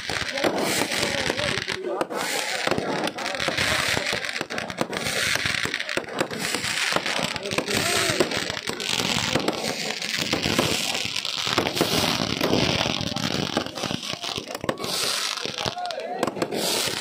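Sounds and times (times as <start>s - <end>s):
firecrackers crackling: 0.0s - 17.0s
firework hissing: 0.0s - 17.0s.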